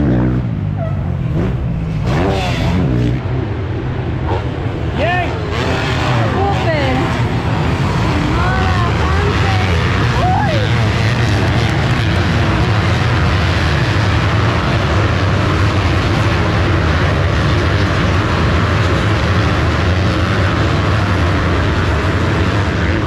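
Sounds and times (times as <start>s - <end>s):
motocross bikes racing: 0.0s - 23.0s.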